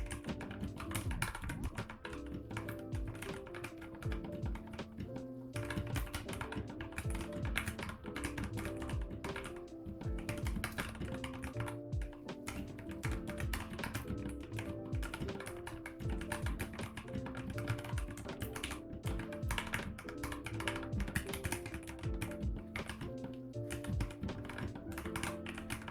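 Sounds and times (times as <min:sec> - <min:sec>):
lo-fi background music: 0:00.0 - 0:25.9
mechanical keyboard typing: 0:00.0 - 0:25.9.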